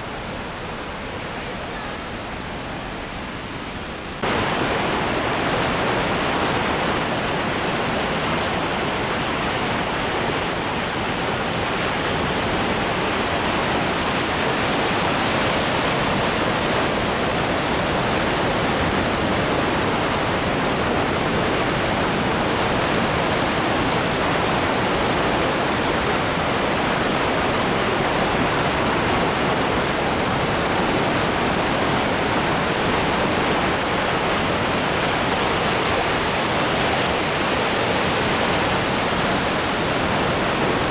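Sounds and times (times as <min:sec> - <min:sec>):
waterfall rushing: 0:04.2 - 0:40.9.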